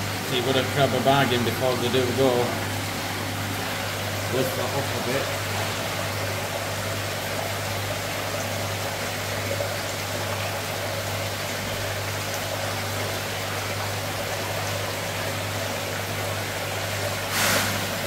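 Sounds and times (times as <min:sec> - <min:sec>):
steady low hum: 0:00.0 - 0:18.0
water running and splashing: 0:00.0 - 0:18.0.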